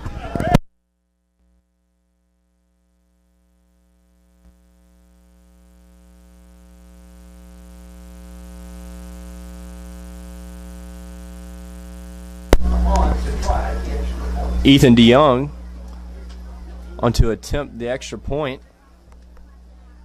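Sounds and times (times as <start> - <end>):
electrical hum: 1.4 - 20.0.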